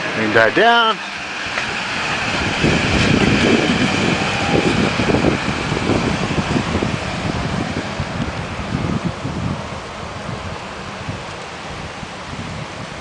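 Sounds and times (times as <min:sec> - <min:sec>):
light rain hiss: 0:00.0 - 0:13.0
wind buffeting microphone: 0:00.0 - 0:13.0.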